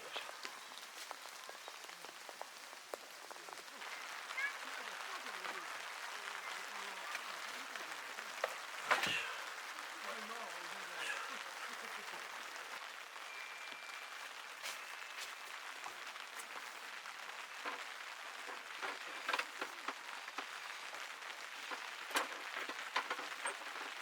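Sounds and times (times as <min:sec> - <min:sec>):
heavy raindrops tapping: 0:00.0 - 0:24.0
steady rain: 0:00.0 - 0:24.0.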